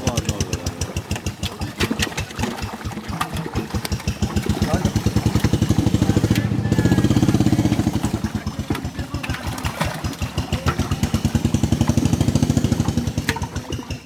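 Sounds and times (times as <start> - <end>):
small engine chugging at idle: 0.0 - 14.0.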